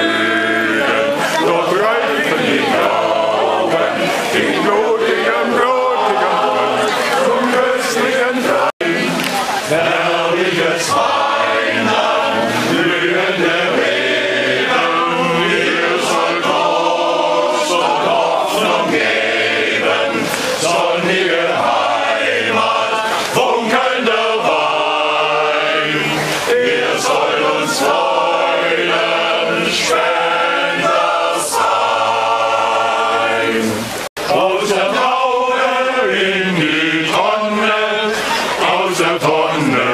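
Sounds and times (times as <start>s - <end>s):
male choir singing a cappella: 0.0s - 39.9s.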